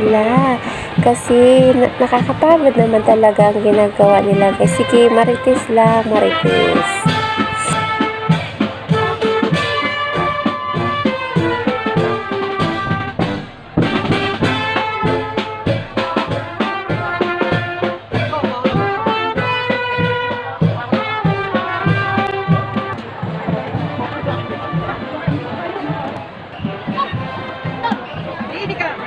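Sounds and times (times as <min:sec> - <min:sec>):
brass band music: 0:00.0 - 0:28.8.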